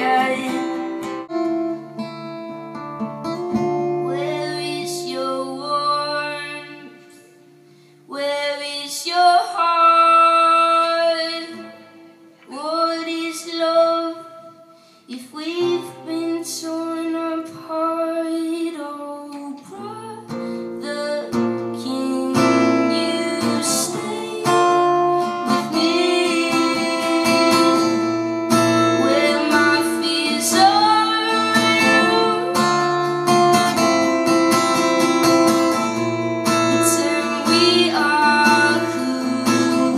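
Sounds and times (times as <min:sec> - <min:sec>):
woman singing: 0:00.0 - 0:01.3, 0:03.8 - 0:07.4, 0:08.1 - 0:39.9
guitar: 0:00.0 - 0:39.9.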